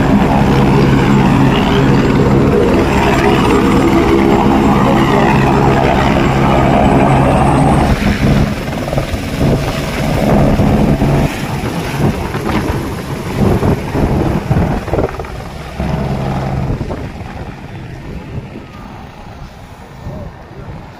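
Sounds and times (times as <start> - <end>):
helicopter turbine whine and rotor: 0.0 - 20.8.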